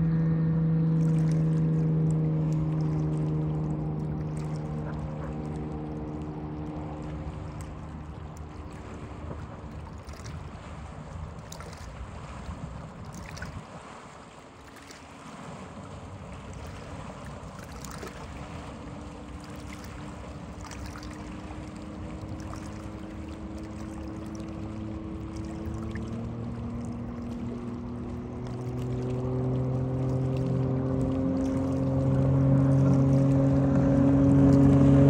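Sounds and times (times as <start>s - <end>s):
speedboat engine running: 0.0s - 35.0s
water noise: 0.0s - 35.0s.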